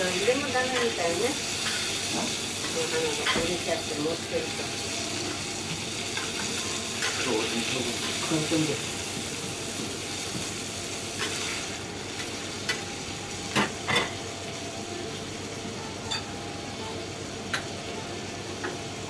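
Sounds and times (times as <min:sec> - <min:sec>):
beef sizzling on griddle: 0:00.0 - 0:19.0.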